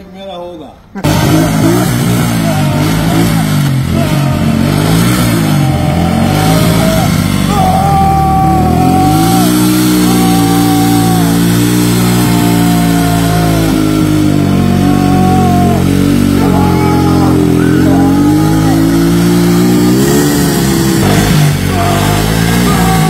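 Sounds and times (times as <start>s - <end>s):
small motorcycle engine revving: 1.0s - 23.0s.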